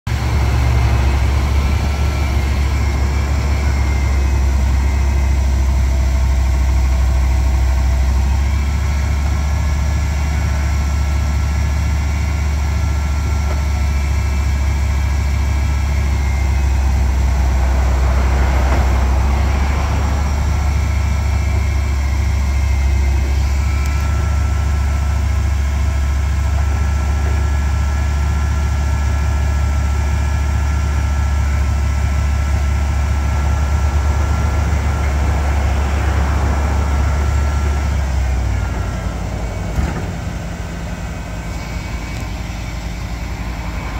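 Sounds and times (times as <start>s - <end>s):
hydraulic whining: 0.1s - 28.8s, 30.6s - 43.9s
truck engine idling: 0.1s - 43.9s.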